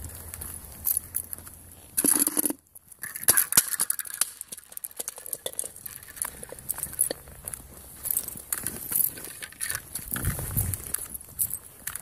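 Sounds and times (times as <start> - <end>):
helmet clattering on paving stones: 0.0 - 12.0.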